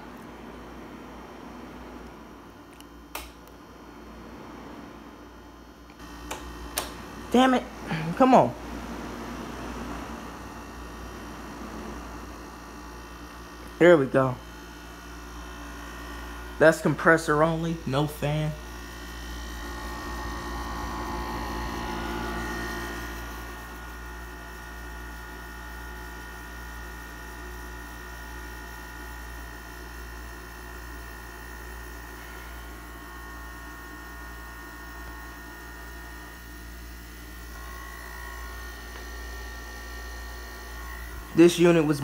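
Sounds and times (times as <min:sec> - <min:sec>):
air conditioner compressor hum: 0:00.0 - 0:42.0.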